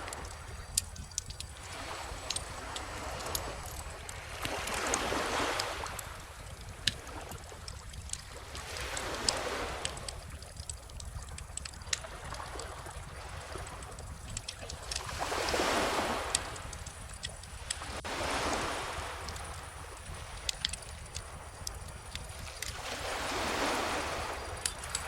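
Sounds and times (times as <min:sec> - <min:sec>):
calm ocean waves washing in: 0:00.0 - 0:25.0
wood fire crackling and popping: 0:00.0 - 0:25.0.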